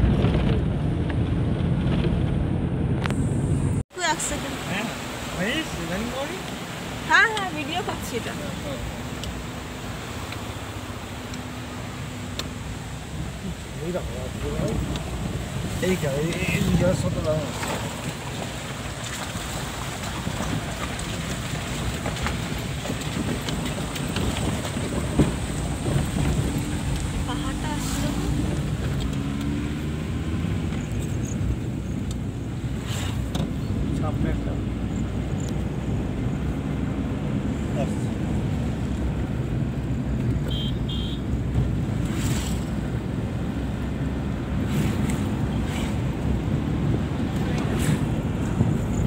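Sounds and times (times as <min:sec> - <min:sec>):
car road noise: 0:00.0 - 0:49.0
rushing wind: 0:00.0 - 0:49.0.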